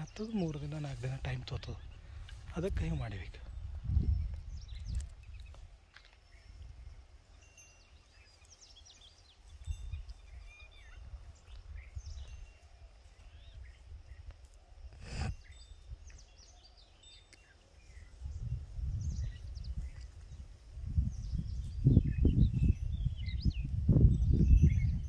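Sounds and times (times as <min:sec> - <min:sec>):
wind rumble on microphone: 0:00.0 - 0:08.0, 0:08.9 - 0:16.8, 0:17.8 - 0:25.0
small birds chirping: 0:00.0 - 0:25.0.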